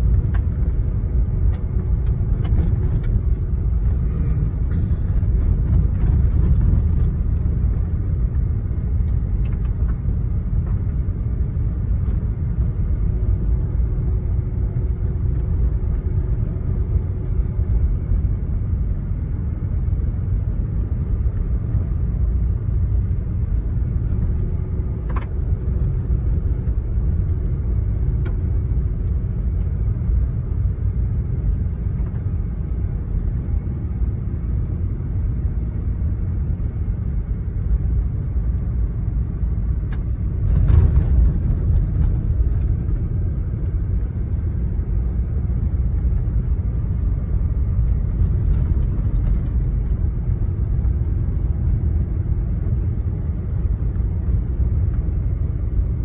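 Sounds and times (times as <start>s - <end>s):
vehicle rumble from inside cabin: 0.0s - 56.0s.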